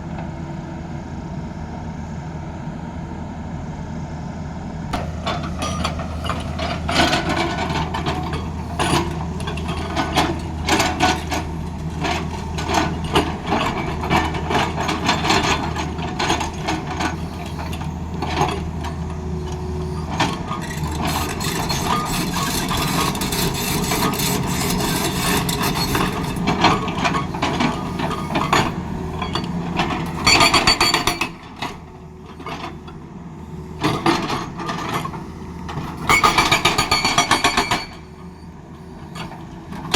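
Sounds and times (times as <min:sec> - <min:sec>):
excavator diesel engine running: 0:00.0 - 0:39.9
metallic clanks and knocks: 0:05.0 - 0:32.9, 0:33.8 - 0:38.2.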